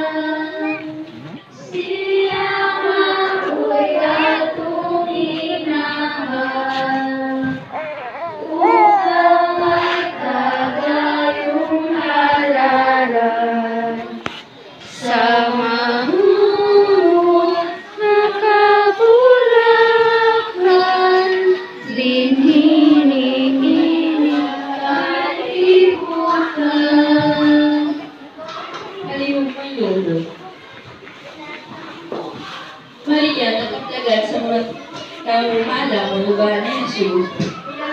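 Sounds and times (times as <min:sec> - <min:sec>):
women and children singing: 0:00.0 - 0:31.0, 0:32.1 - 0:37.9.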